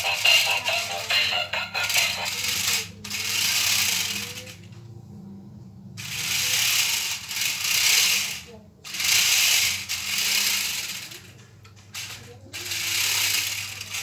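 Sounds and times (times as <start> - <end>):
toy car motors whirring: 0.0 - 4.8, 6.0 - 14.0
wheels clattering on tiles: 0.0 - 5.0, 6.0 - 14.0.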